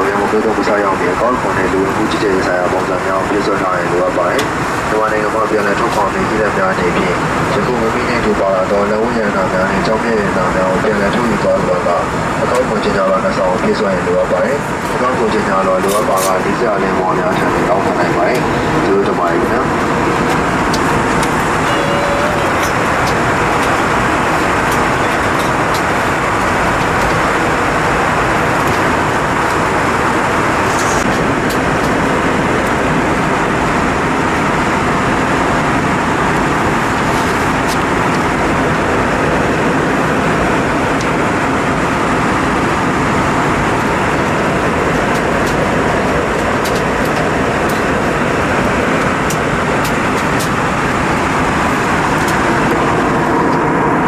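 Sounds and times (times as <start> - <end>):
aircraft engine noise: 0.0 - 54.0
airflow rushing in cabin: 0.0 - 54.0.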